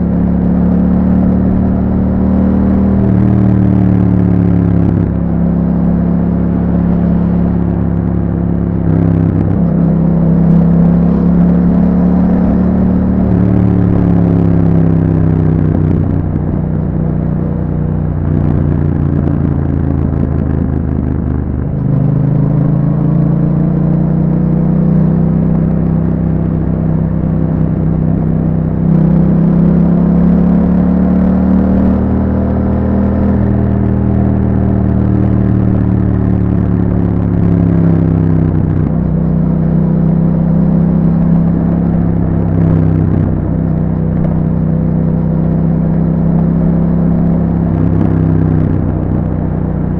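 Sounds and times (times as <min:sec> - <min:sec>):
motorcycle engine while riding: 0:00.0 - 0:49.9.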